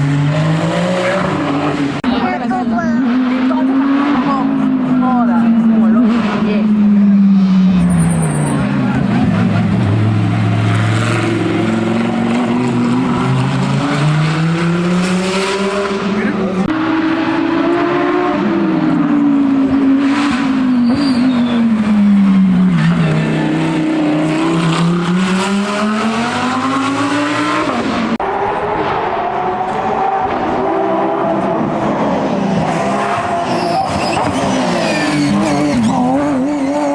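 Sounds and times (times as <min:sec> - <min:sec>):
race car engine at high revs: 0:00.0 - 0:36.9.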